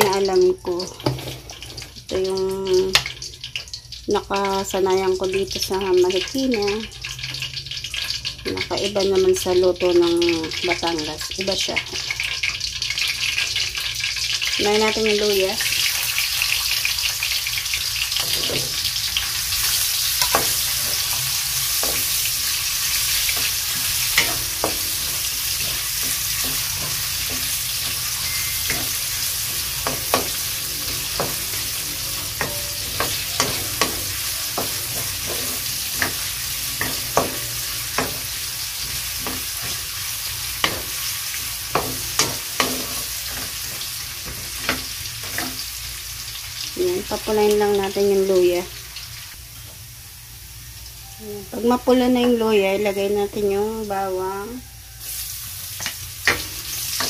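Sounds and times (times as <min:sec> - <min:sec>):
ginger sizzling in oil: 0:00.0 - 0:57.0.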